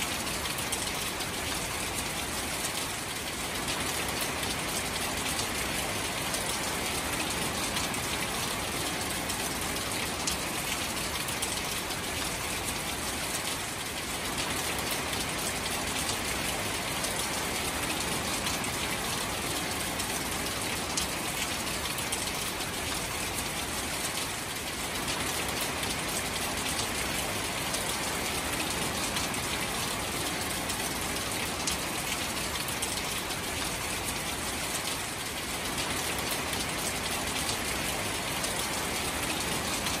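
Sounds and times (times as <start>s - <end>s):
rain falling on water: 0.0s - 40.0s.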